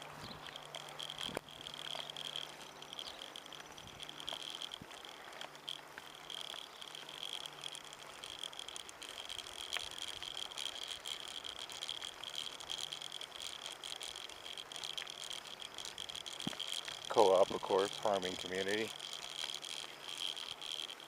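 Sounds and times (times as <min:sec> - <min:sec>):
insects chirping trill: 0:00.0 - 0:21.0.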